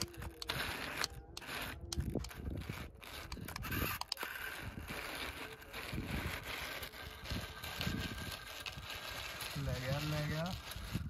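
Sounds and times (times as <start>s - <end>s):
electric motor whining: 0.0s - 11.0s
tyres churning through sand: 0.0s - 11.0s.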